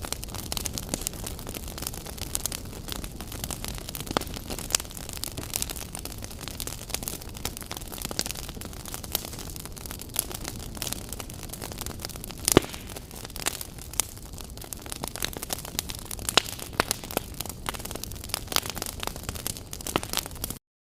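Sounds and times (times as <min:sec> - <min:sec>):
wood fire crackling and popping: 0:00.0 - 0:20.6.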